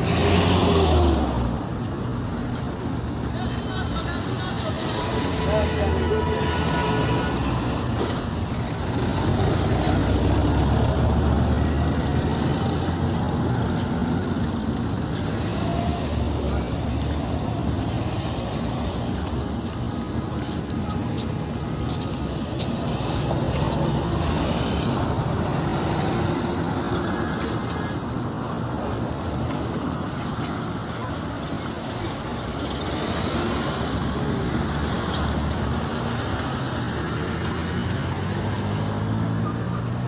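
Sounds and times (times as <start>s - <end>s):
road noise: 0.0s - 40.0s
vehicle engine: 0.0s - 40.0s.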